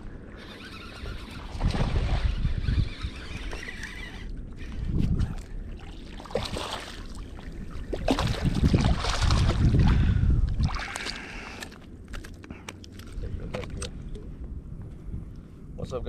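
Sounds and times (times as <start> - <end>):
water sloshing: 0.3 - 14.0.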